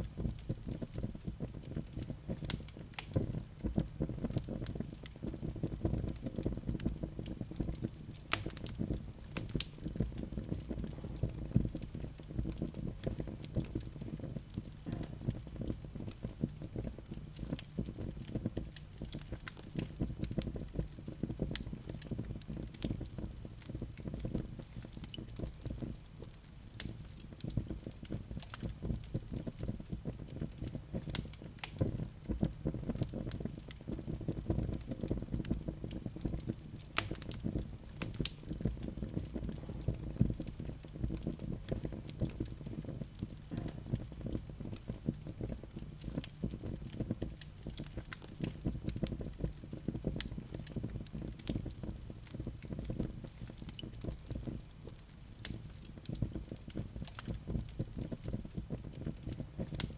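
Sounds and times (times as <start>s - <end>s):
burning logs crackling and popping: 0.0s - 59.9s
fire flames rumbling: 0.0s - 59.9s.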